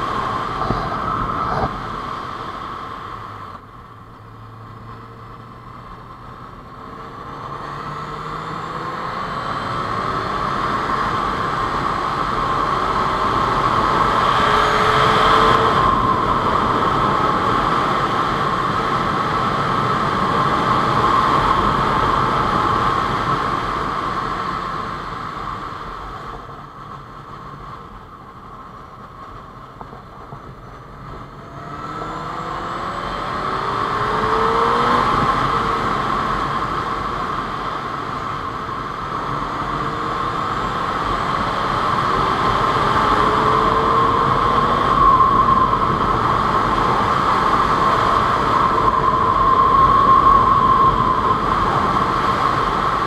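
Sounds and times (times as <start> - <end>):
wind noise: 0.0 - 53.0
motorcycle engine accelerating: 3.1 - 25.2, 29.2 - 53.0.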